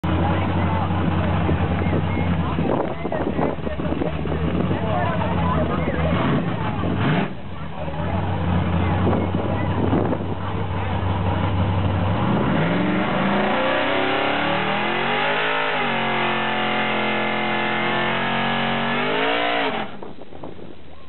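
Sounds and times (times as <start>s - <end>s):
pickup engine revving: 0.0s - 20.2s.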